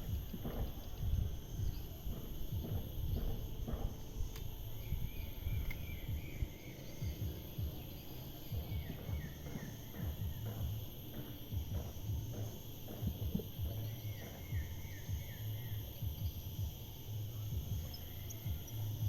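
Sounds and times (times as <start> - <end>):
wind buffeting microphone: 0.0 - 16.9
insect drone: 0.0 - 19.0.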